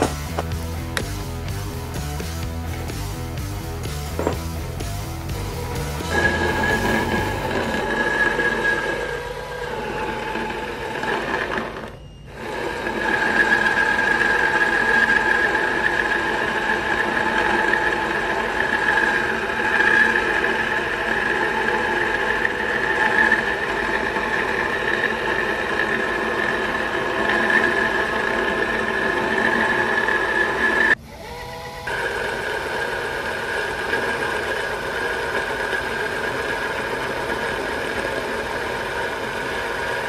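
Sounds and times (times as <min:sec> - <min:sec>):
lathe spindle whining: 0:00.0 - 0:40.0.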